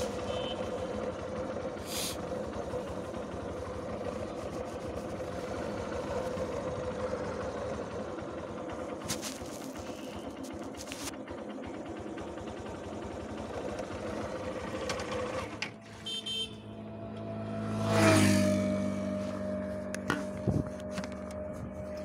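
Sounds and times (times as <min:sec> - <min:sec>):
traffic noise: 0:00.0 - 0:12.7, 0:13.3 - 0:22.0
motorcycle engine running: 0:00.0 - 0:22.0.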